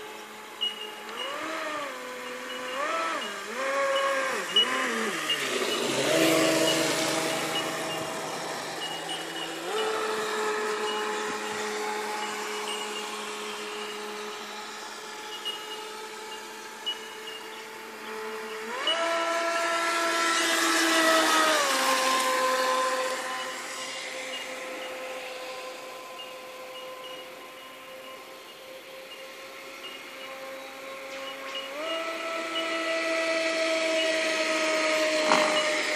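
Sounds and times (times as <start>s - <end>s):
model boat motor buzzing: 0.0s - 35.9s.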